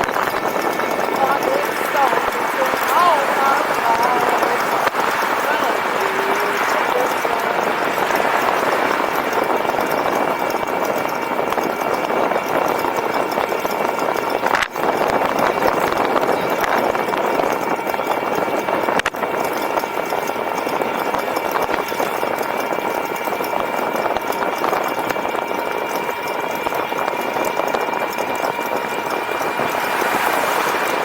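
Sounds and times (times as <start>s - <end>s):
faint steady whine: 0.0s - 31.0s
wind on microphone: 0.0s - 31.0s.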